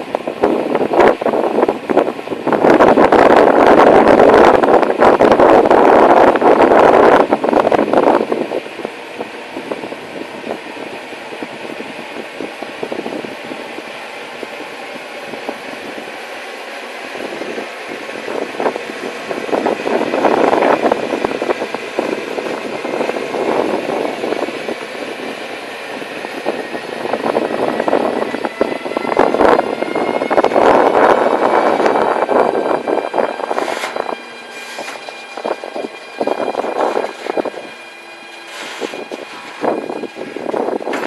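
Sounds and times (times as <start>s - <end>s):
freight train rumbling: 0.0s - 41.0s.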